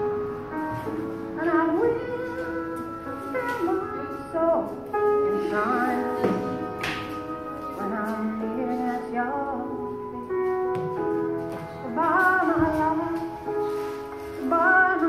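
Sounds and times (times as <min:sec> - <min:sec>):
music with singing voice: 0:00.0 - 0:15.0.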